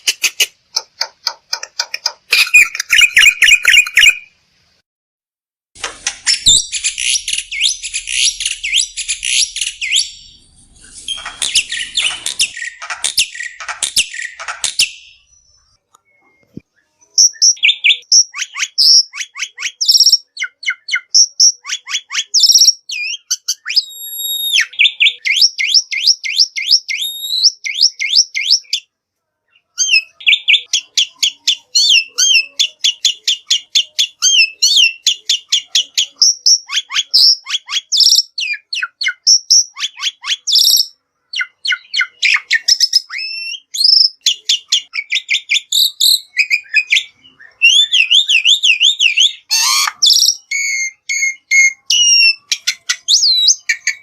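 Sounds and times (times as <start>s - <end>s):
bird chirps and whistles: 2.3s - 4.3s, 6.2s - 28.9s, 29.8s - 54.0s.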